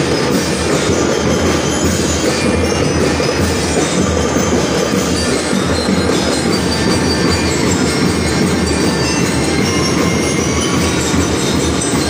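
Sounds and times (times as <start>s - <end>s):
drum and lyre band playing: 0.0s - 12.0s.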